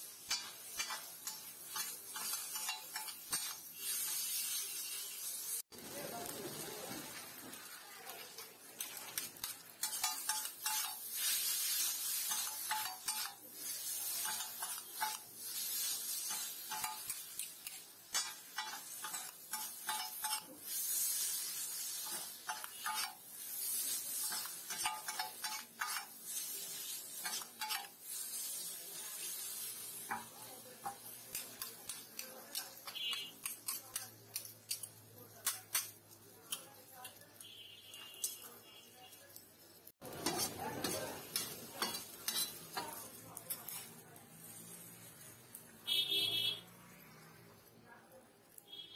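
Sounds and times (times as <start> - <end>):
metal spatulas scraping on griddle: 0.0 - 5.4, 8.2 - 38.8, 40.0 - 45.3
food sizzling: 0.0 - 48.9.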